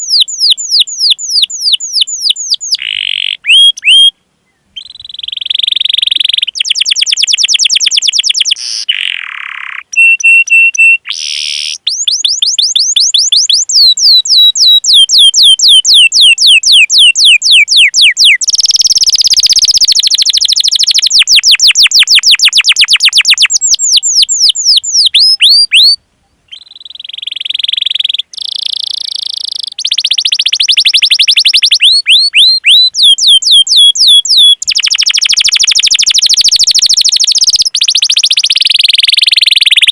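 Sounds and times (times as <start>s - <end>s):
canary singing chirps and trills: 0.0s - 4.1s, 4.8s - 39.9s.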